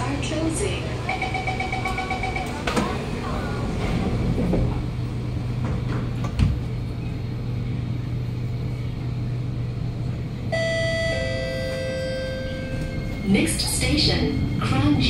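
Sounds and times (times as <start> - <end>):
train motor hum and rumble: 0.0 - 15.0.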